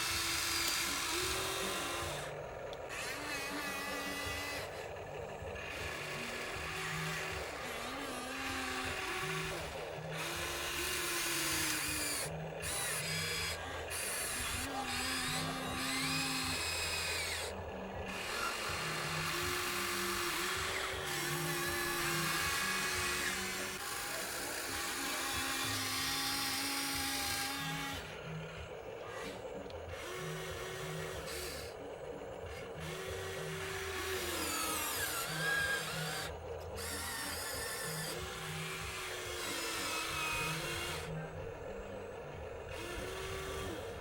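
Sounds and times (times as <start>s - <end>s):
small electric motors whining: 0.0s - 44.0s.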